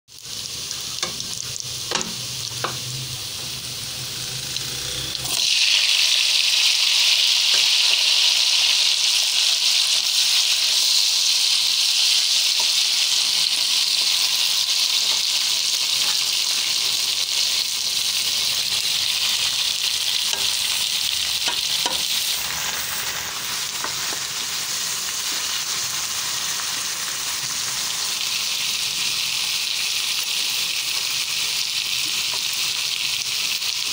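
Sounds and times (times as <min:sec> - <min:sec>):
food sizzling in hot oil: 0:00.1 - 0:33.9.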